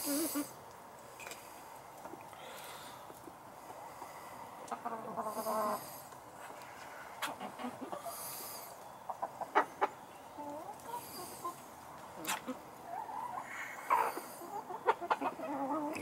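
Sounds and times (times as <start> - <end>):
hens clucking: 0.0 - 0.7, 3.0 - 16.0.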